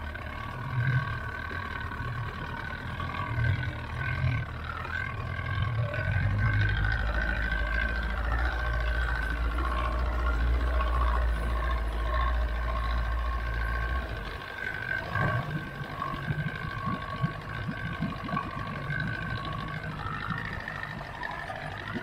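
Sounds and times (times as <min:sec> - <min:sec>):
outboard motor idling: 0:00.0 - 0:22.0
water lapping against hull: 0:00.0 - 0:22.0.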